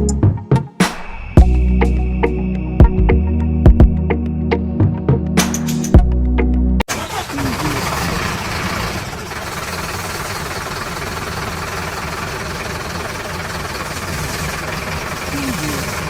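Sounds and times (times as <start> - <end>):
truck engine rumbling: 1.4 - 16.0.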